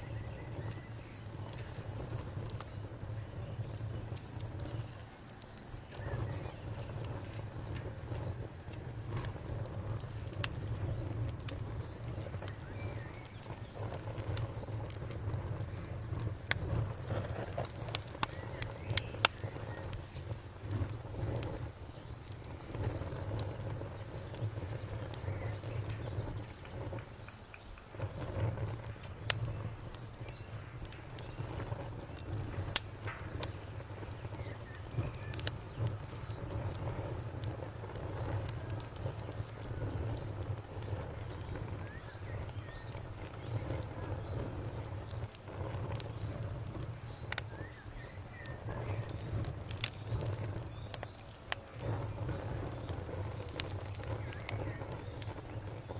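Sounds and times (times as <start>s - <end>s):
campfire crackling: 0.0s - 55.9s
crickets chirping: 0.0s - 55.9s.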